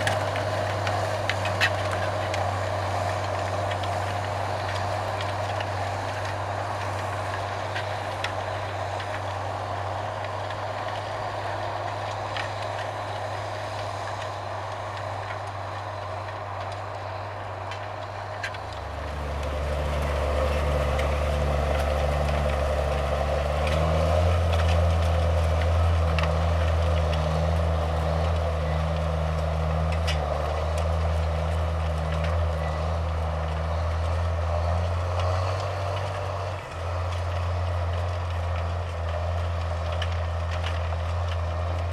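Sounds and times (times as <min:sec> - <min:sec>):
deeper engine note: 0:00.0 - 0:41.9
tractor engine running: 0:00.0 - 0:41.9.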